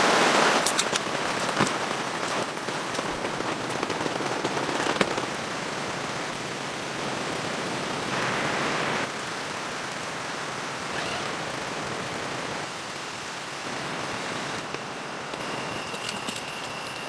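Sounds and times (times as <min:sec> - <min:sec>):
raindrops ticking close by: 0:00.0 - 0:15.4
steady rain: 0:00.0 - 0:17.0.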